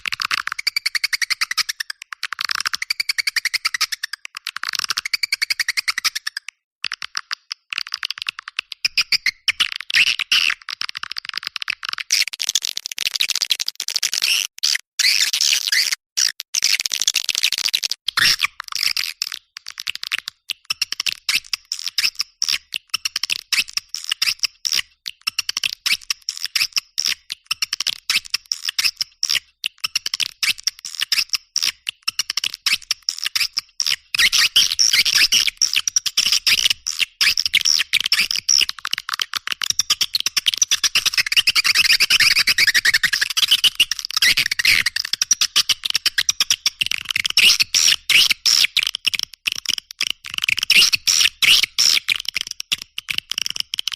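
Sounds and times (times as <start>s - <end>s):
rapid scratchy bird chirping: 0.0s - 49.2s, 50.0s - 53.9s.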